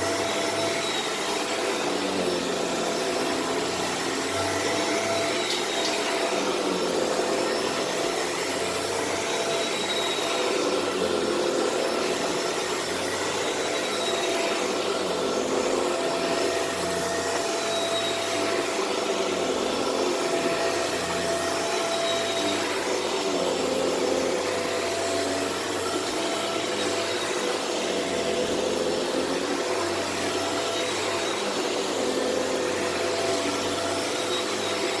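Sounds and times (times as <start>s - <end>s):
vacuum cleaner running over carpet: 0.0s - 35.0s.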